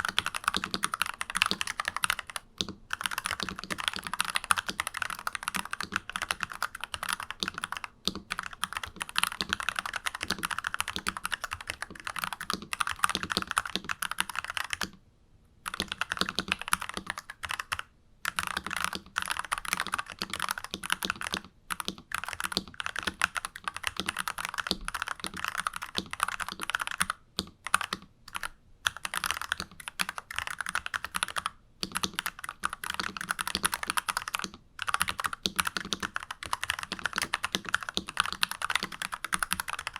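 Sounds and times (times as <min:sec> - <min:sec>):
mechanical keyboard typing: 0:00.0 - 0:15.0, 0:15.6 - 0:39.9.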